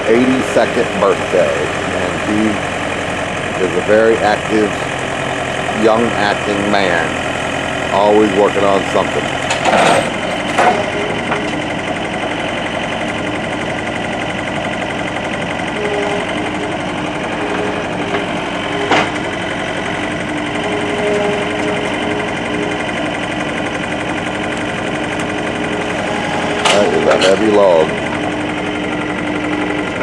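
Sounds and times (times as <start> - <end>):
skid steer engine running: 0.0 - 30.0.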